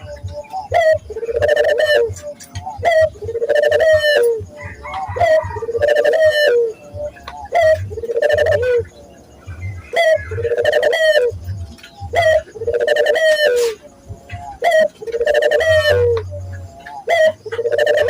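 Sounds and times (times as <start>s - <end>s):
dove cooing: 0.0s - 18.0s.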